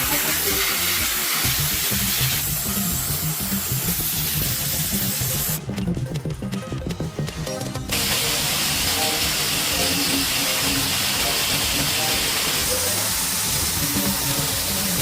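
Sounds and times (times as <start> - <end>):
compressed-air tool hissing: 0.0 - 5.6, 7.9 - 15.0
background music: 0.0 - 15.0.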